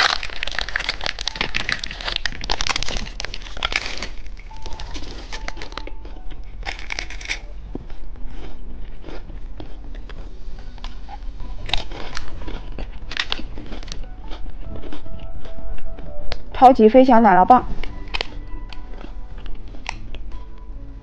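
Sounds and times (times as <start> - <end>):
hard candy crunching: 0.0 - 16.6, 17.8 - 21.0.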